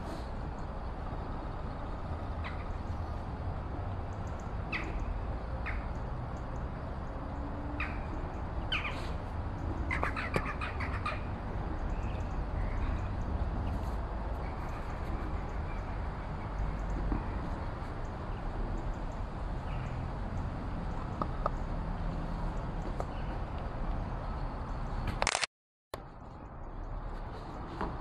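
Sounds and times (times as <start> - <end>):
low wind rumble: 0.0 - 25.2.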